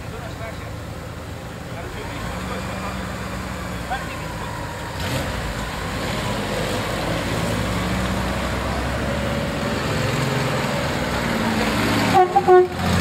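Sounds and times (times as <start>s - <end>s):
sports car engines pulling away: 1.8s - 13.0s.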